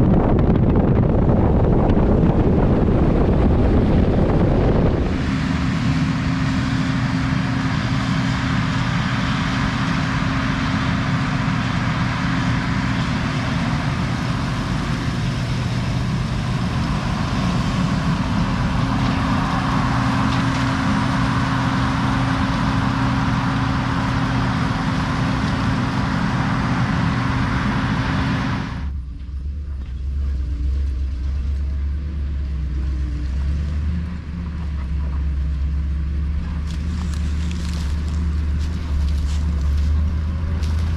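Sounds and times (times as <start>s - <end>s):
deep low drone: 0.0s - 40.9s
heavy vehicle engine running: 0.0s - 40.9s.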